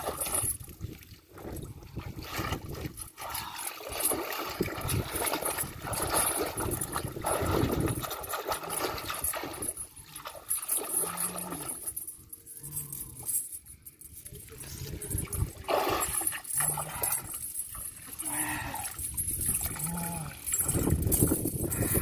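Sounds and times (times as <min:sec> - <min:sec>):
water splashing and sloshing: 0:00.0 - 0:13.4, 0:14.1 - 0:22.0
metal chain hauled through water: 0:00.0 - 0:22.0.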